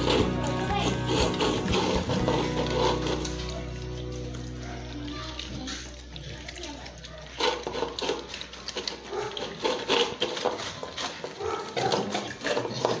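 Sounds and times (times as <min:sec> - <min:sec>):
dogs chewing and slurping: 0:00.0 - 0:13.0.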